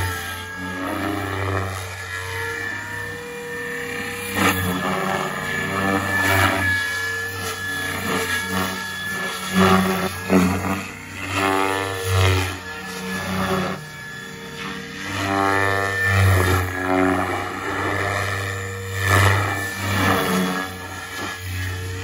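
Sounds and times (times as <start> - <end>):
rc helicopter motor whine: 0.0 - 22.0
rotor blades whooshing: 3.0 - 22.0.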